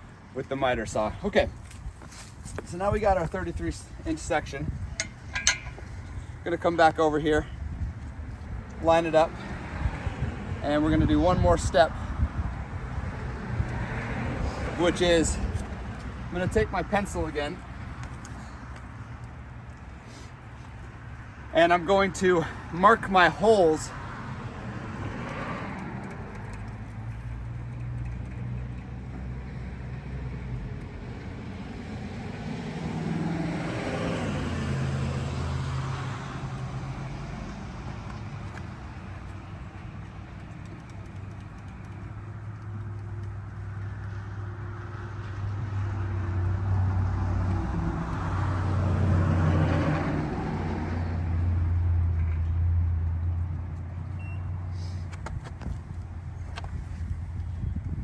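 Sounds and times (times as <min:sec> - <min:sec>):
cars passing by: 0:00.0 - 0:58.0.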